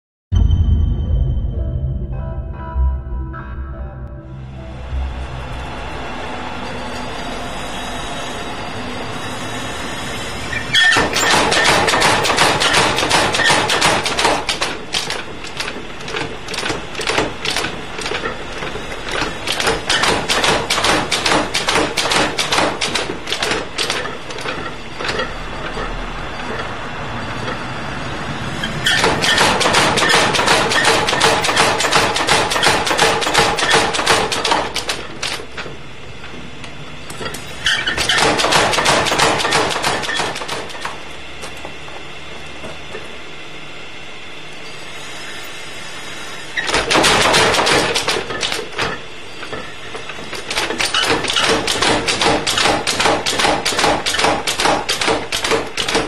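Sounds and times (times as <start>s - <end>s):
steady machine noise: 4.2s - 56.0s
power hammer pounding hot steel: 5.0s - 41.8s, 46.0s - 56.0s.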